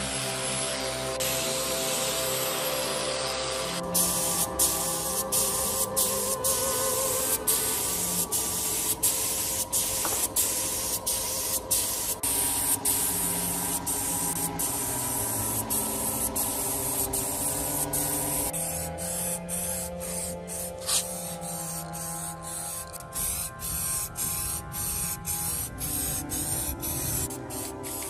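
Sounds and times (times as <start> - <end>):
paint spray gun hissing: 0.0 - 28.0
aerosol spray can hissing: 1.2 - 28.0.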